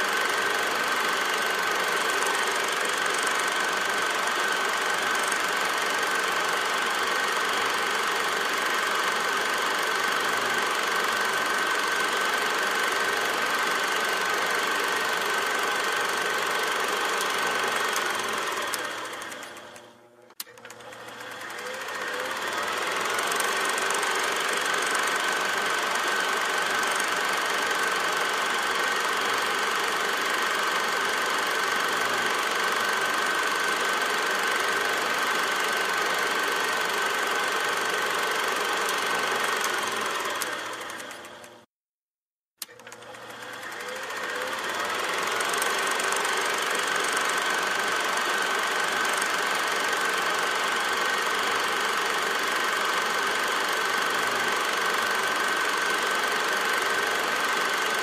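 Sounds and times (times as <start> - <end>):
film projector whirring: 0.0 - 41.7, 42.6 - 58.0.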